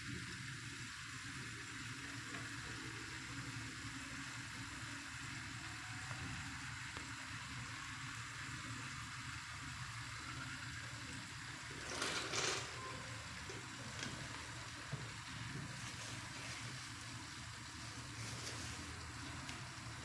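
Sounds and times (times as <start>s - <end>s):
circulating water hiss: 0.0s - 20.0s
pump humming: 0.0s - 20.0s.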